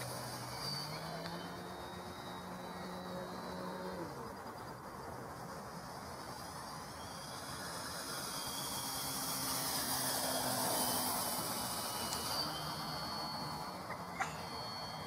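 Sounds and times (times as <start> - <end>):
model plane motor whine: 0.0 - 15.0.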